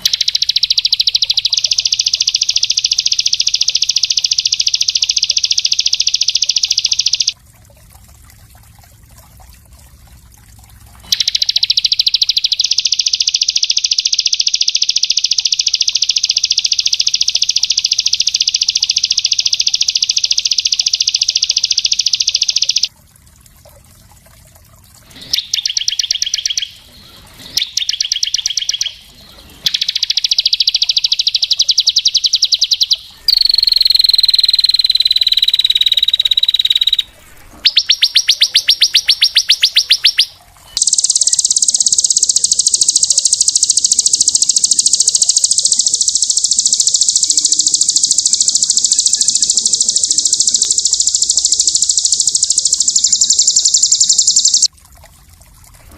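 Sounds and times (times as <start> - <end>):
songbird singing fast trills: 0.0 - 7.4, 11.1 - 22.9, 25.2 - 26.8, 27.5 - 29.1, 29.7 - 54.7.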